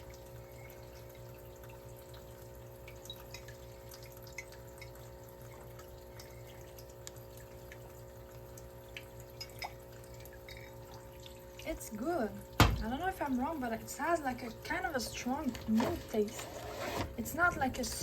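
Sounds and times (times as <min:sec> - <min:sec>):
water dripping: 0:00.0 - 0:16.3
washing machine humming: 0:00.0 - 0:18.0.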